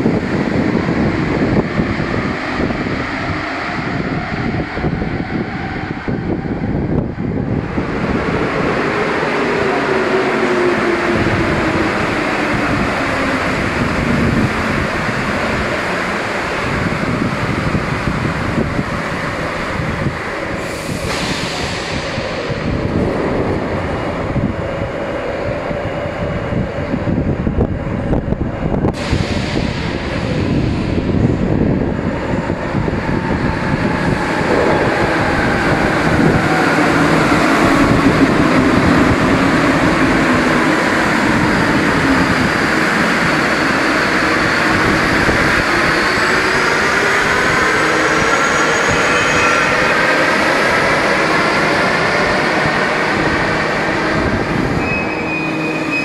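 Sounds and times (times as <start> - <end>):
metro train rumbling: 0.0 - 56.0.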